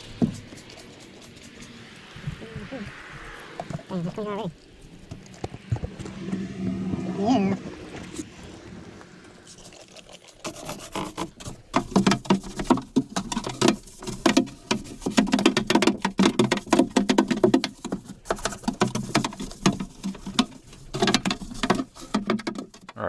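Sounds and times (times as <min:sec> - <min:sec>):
brush scrubbing a hull: 0:00.0 - 0:22.9.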